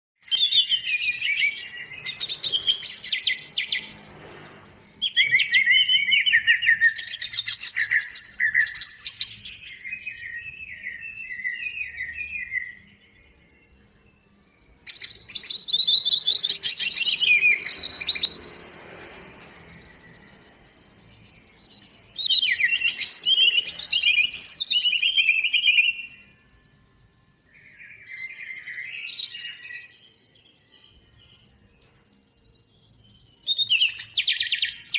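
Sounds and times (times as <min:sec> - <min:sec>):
bird chirping and warbling: 0:00.2 - 0:26.4, 0:27.5 - 0:31.6, 0:32.9 - 0:34.9.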